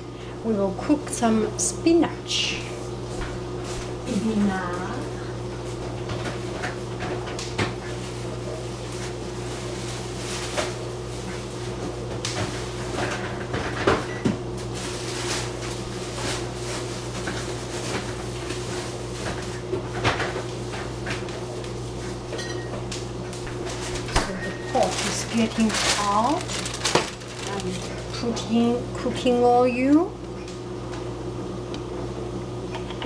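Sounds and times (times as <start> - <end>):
gas burner humming: 0.0 - 33.0.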